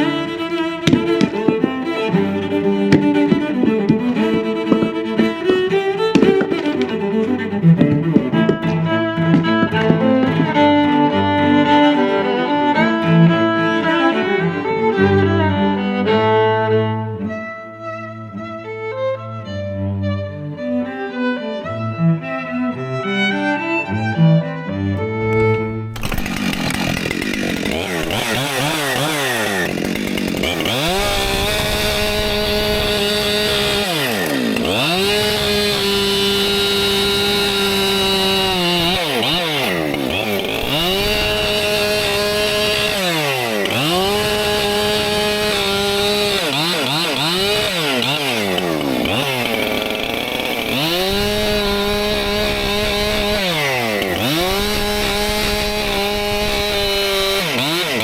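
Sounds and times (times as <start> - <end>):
chainsaw cutting firewood: 0.0 - 16.4, 25.0 - 58.0.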